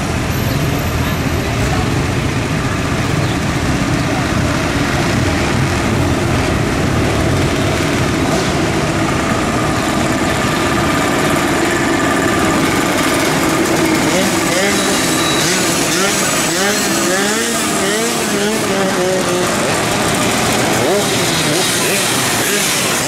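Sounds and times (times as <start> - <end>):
motorcycle engines passing: 0.0 - 23.0.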